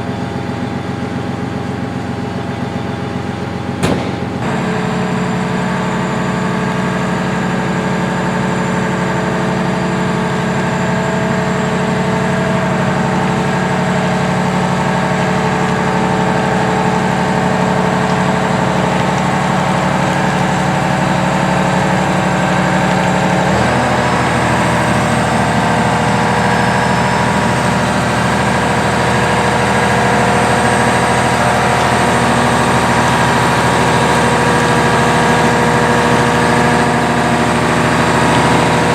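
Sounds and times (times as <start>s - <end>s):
harvester diesel engine running: 0.0s - 38.9s.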